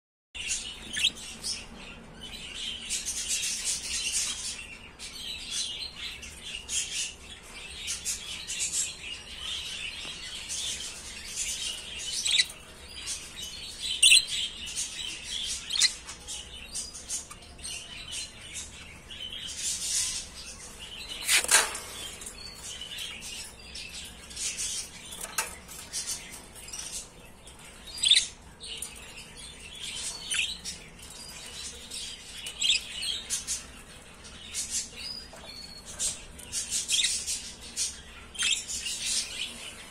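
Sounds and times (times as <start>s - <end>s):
budgerigars chirping and chattering: 0.4s - 39.9s.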